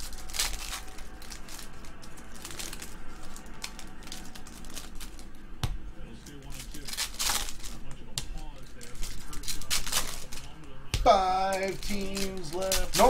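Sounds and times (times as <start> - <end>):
foil wrapper crinkling and tearing: 0.0 - 5.4, 6.1 - 13.0.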